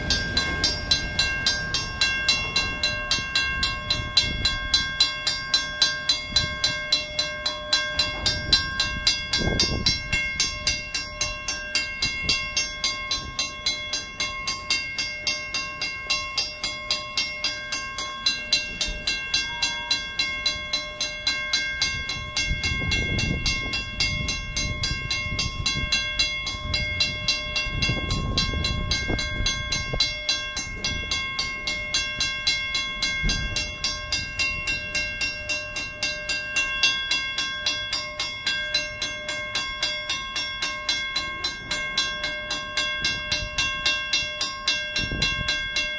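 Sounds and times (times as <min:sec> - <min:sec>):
crossing signal bell ringing: 0:00.0 - 0:45.9.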